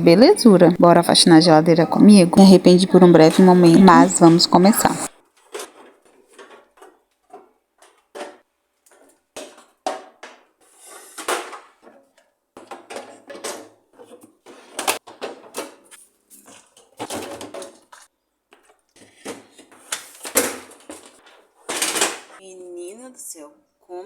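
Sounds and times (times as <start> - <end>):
containers knocking and clattering: 3.1 - 22.4.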